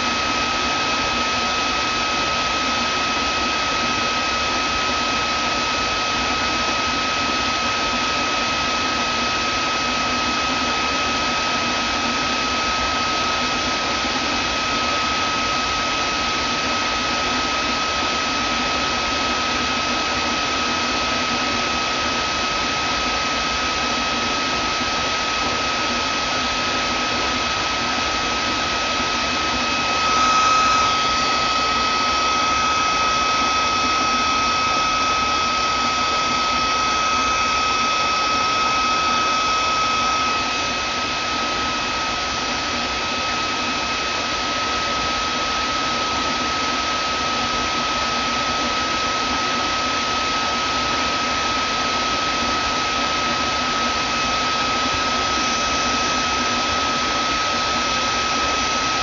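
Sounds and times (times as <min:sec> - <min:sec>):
vacuum cleaner motor whining: 0:00.0 - 0:59.0.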